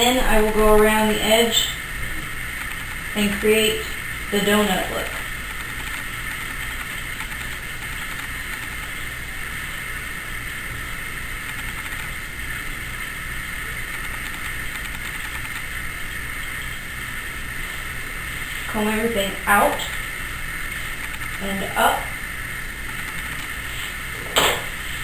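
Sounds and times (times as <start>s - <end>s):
mechanical hum with hiss: 0.0s - 25.0s.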